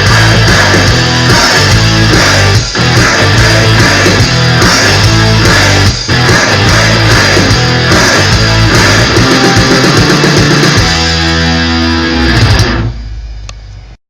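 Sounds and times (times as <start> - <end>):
loud rock music with electric guitar: 0.0 - 13.0.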